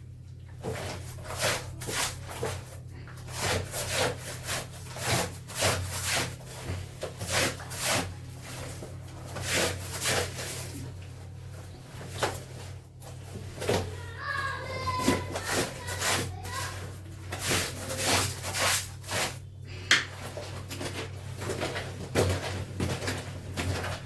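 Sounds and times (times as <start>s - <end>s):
low steady hum: 0.0s - 24.0s
clothes scrubbed by hand: 0.6s - 24.0s.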